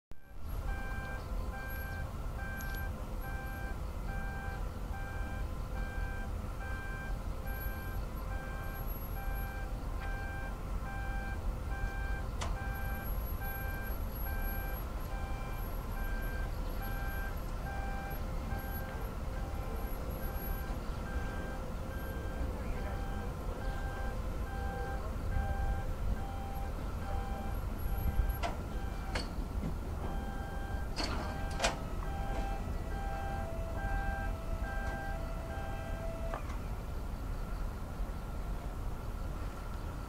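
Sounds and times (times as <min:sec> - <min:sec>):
warning beeper beeping: 0:00.2 - 0:29.4, 0:30.0 - 0:36.4
low rumble and hum: 0:00.2 - 0:40.0.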